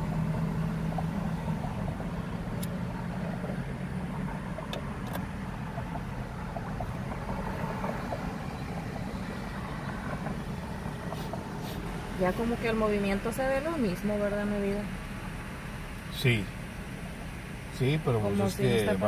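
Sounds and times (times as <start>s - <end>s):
car engine and road noise: 0.0s - 19.0s
traffic passing: 0.0s - 19.0s.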